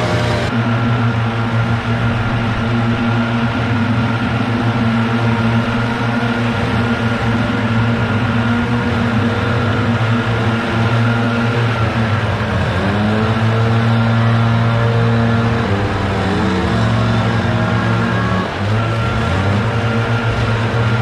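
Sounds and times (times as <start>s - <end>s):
gasoline engines running: 0.0s - 21.0s.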